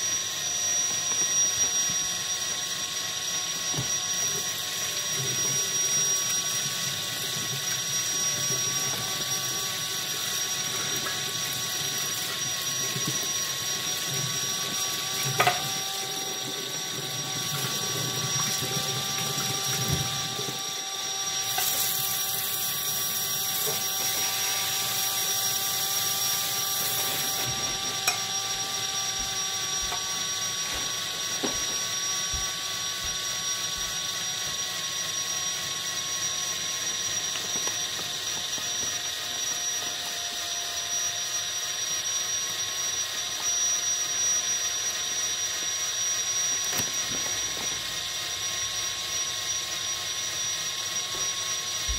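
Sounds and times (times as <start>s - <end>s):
small motor whirring: 0.0s - 51.9s.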